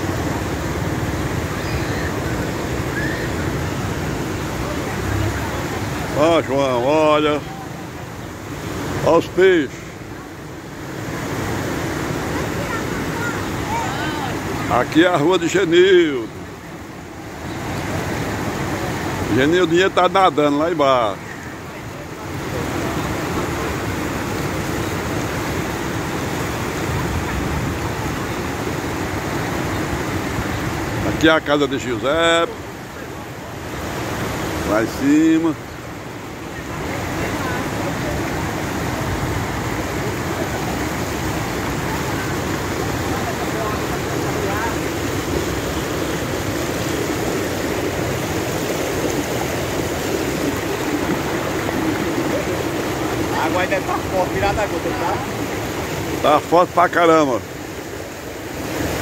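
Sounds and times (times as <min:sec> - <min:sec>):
floodwater rushing down street: 0:00.0 - 0:59.0.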